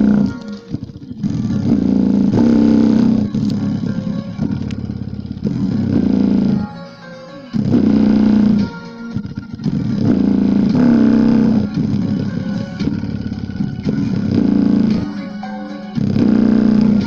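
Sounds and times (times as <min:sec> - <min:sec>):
bass-heavy music through speaker: 0:00.0 - 0:17.0.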